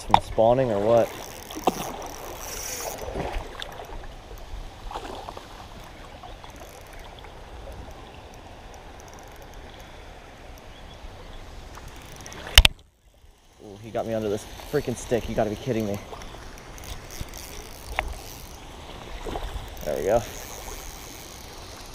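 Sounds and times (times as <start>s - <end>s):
creek water running: 0.0s - 21.9s.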